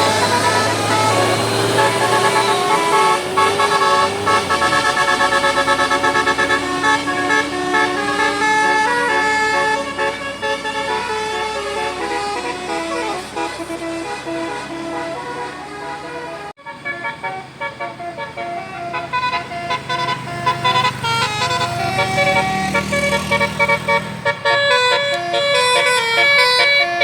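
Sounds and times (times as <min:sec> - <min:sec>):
multi-note musical bus horn: 0:00.0 - 0:27.0.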